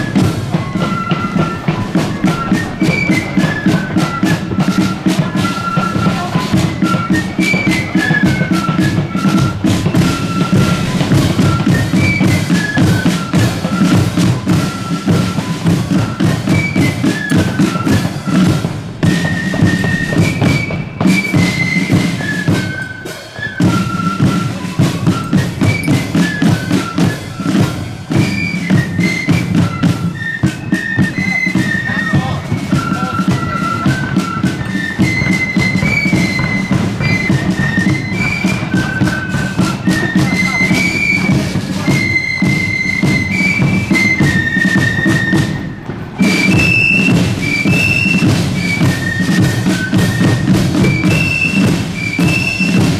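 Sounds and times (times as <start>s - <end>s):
flutes playing melody: 0.0s - 52.9s
snare drum rolls: 0.0s - 52.9s.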